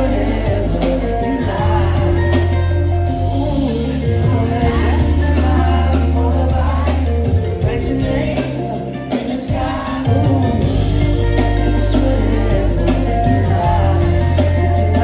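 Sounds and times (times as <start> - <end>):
live soul band playing: 0.0 - 15.0
man singing: 0.0 - 15.0.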